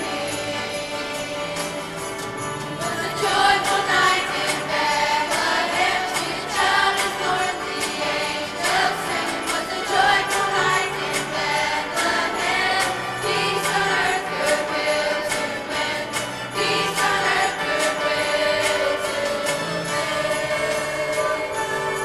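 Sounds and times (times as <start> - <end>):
children's choir singing: 0.0 - 22.0
jingle bells shaken: 0.0 - 22.0.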